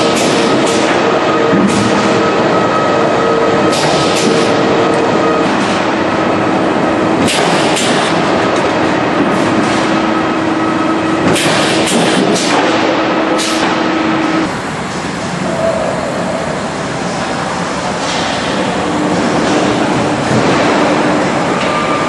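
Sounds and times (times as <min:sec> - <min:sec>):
motor hum and whine: 0:00.0 - 0:22.0.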